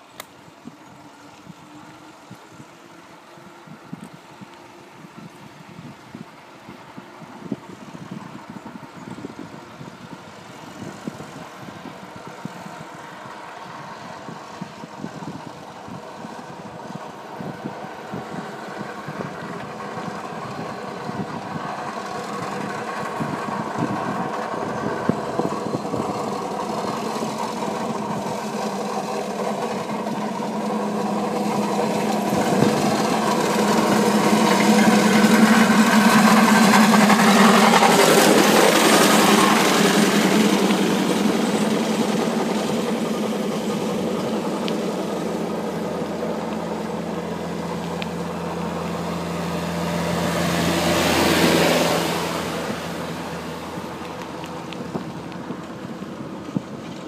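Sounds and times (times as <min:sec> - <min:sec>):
construction machine engine humming: 0:00.0 - 0:57.0.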